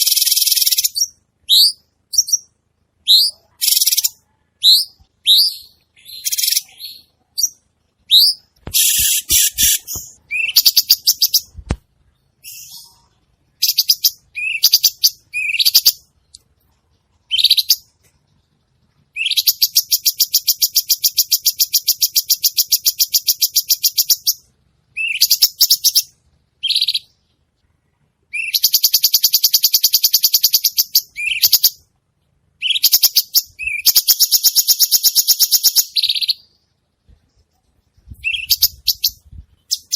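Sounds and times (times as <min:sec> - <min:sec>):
songbird singing with buzzing trills: 0:00.0 - 0:27.4, 0:28.3 - 0:31.8, 0:32.6 - 0:36.8, 0:37.4 - 0:39.9.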